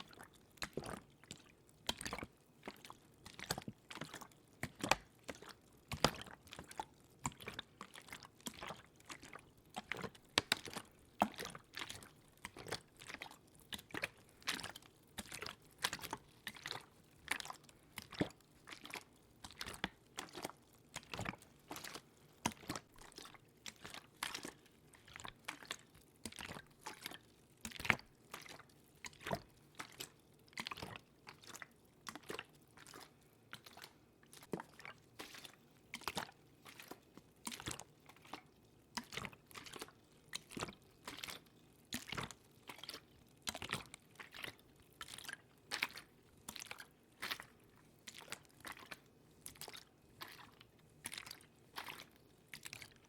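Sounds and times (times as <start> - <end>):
wet clicks and crackles: 0.0 - 53.0.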